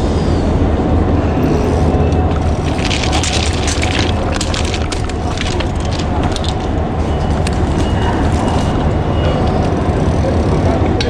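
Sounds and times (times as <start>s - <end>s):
city street noise: 0.0s - 11.0s.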